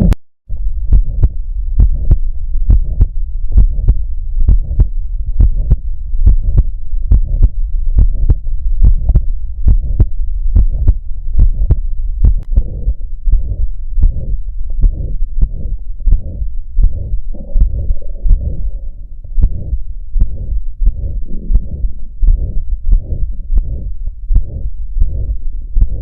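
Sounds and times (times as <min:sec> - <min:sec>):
low hum: 0:00.0 - 0:26.0
heartbeat lub-dub: 0:00.8 - 0:26.0.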